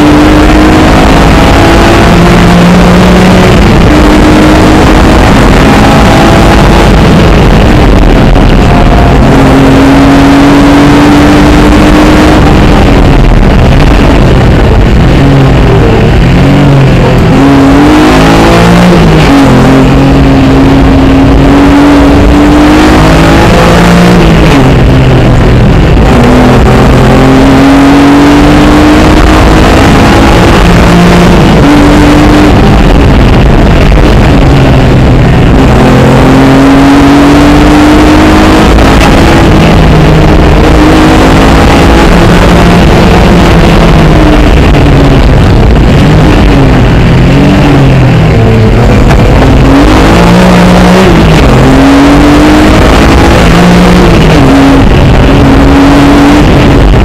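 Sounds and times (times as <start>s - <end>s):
rally car engine revving: 0.0s - 57.0s
road and tyre noise: 0.0s - 57.0s.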